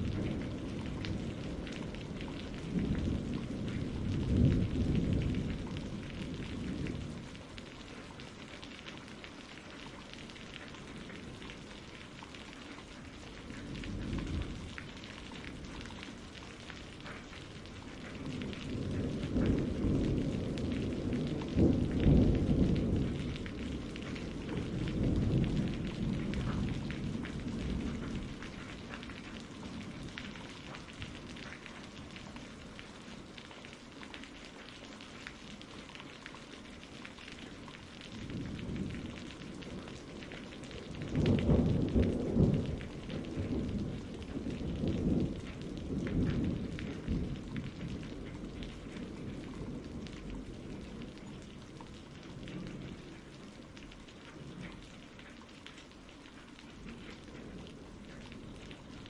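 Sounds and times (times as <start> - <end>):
low rolling thunder: 0.0 - 8.8, 9.6 - 33.6, 37.4 - 54.9, 56.7 - 59.0
steady rain falling: 0.0 - 59.0.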